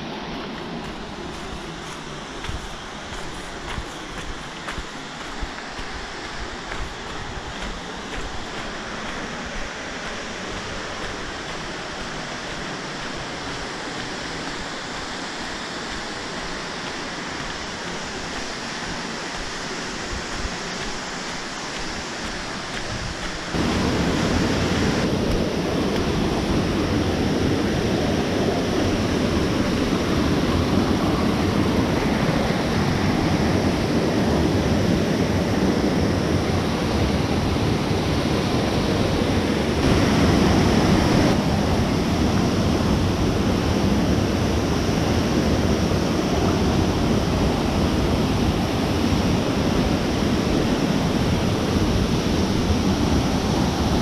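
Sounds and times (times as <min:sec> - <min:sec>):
ocean surf breaking on rocks: 0:00.0 - 0:54.0.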